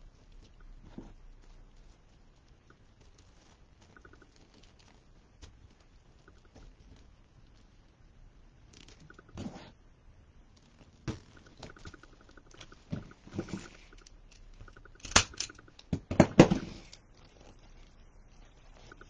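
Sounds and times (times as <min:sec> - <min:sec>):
mesh and ribbon rustling: 0:00.0 - 0:19.0.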